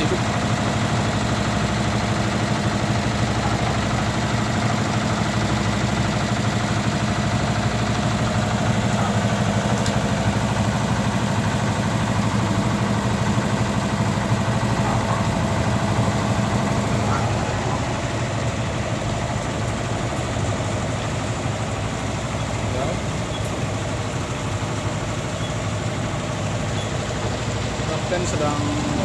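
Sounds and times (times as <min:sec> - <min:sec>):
boat diesel engine humming: 0:00.0 - 0:29.0.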